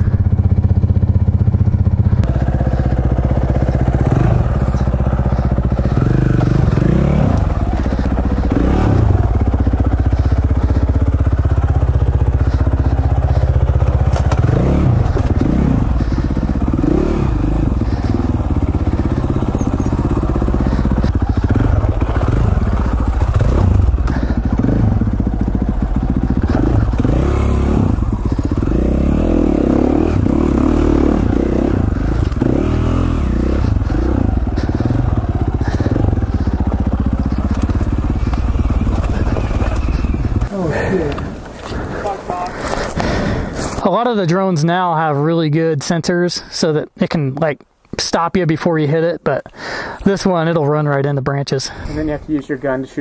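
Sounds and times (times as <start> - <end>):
dirt bike engine revving: 0.0 - 43.8.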